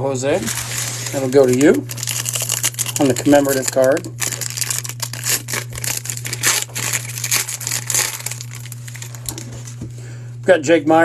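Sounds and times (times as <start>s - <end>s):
foil wrapper crinkling: 0.2s - 9.9s.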